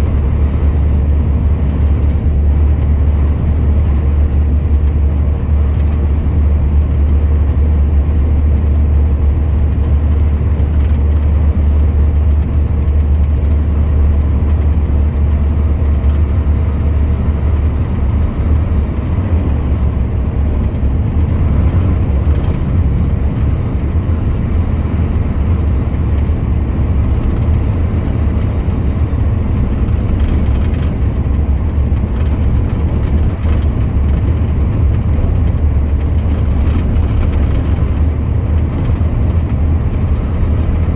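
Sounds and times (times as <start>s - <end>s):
road and tyre noise: 0.0s - 40.9s
truck engine drone: 0.0s - 40.9s.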